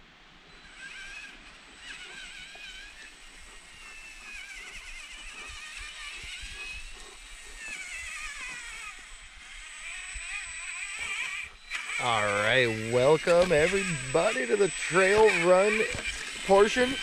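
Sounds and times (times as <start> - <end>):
rc car motor whining: 0.4 - 17.0.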